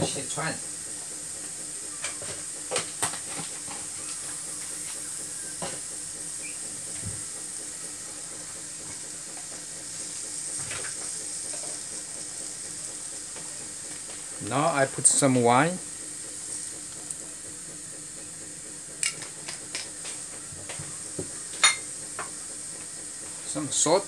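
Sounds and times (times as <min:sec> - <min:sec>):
broth boiling: 0:00.0 - 0:24.0.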